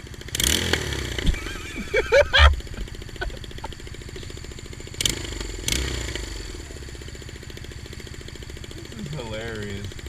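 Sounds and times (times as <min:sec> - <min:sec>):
motorcycle engine pulsing exhaust: 0:00.0 - 0:10.0
sharp exhaust bursts: 0:00.3 - 0:10.0.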